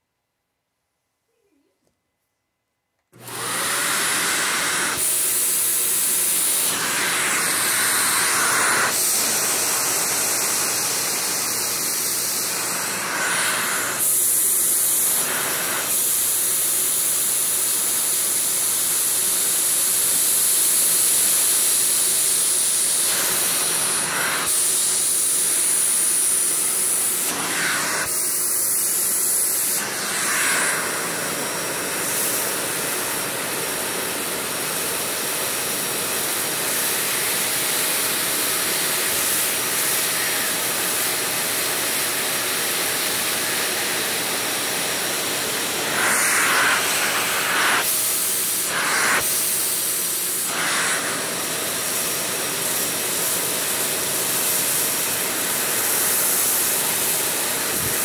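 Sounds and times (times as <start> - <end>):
vacuum cleaner running: 3.2 - 58.0.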